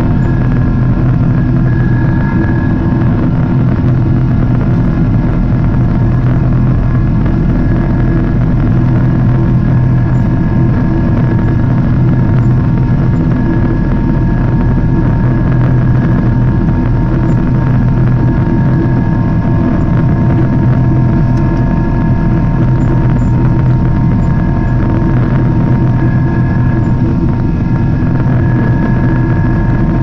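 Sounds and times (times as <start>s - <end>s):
jet engine drone: 0.0s - 30.0s
rushing airflow: 0.0s - 30.0s
steady tones: 0.0s - 30.0s.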